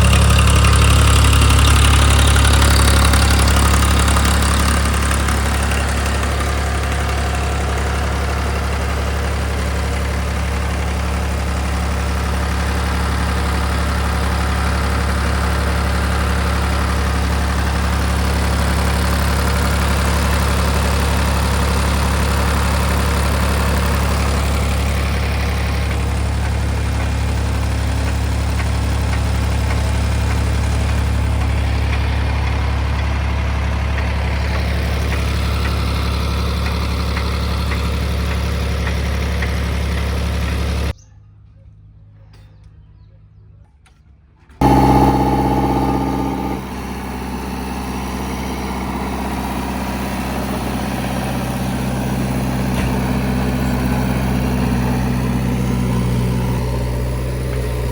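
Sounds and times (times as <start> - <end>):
diesel engine low hum: 0.0 - 41.0, 44.6 - 57.9.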